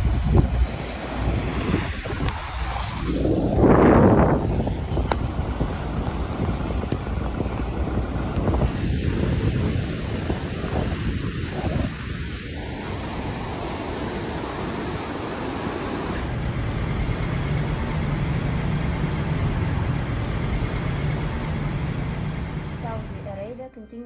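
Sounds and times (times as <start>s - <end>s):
heavy rain and wind: 0.0s - 23.3s
vehicle engine hum: 0.0s - 23.6s.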